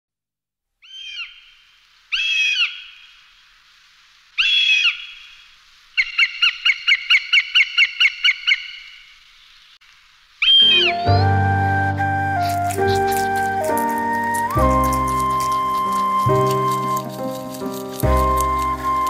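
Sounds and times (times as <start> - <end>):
bird calling: 0.8 - 3.3, 4.4 - 9.8, 10.4 - 19.0.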